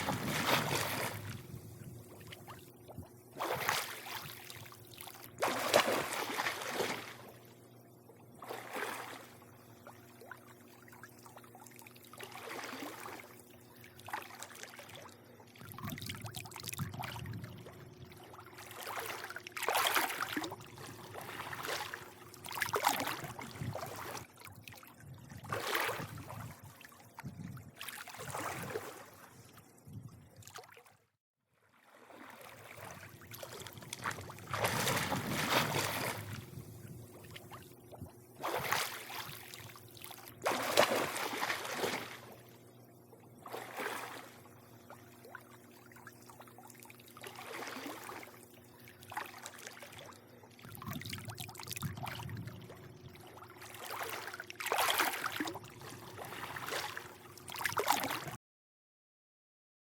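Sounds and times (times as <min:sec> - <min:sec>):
faint steady low hum: 0:00.0 - 0:30.6, 0:31.8 - 0:58.4
pool water lapping and sloshing: 0:00.0 - 0:58.4.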